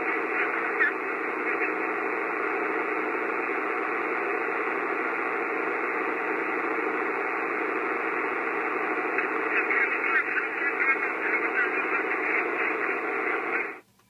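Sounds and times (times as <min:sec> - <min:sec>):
radio static hiss: 0:00.0 - 0:13.9.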